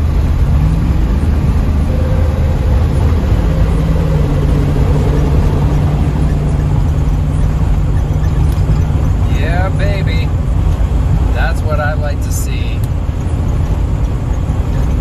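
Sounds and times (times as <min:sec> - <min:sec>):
car engine accelerating: 0:00.0 - 0:15.0
road drone: 0:00.0 - 0:15.0.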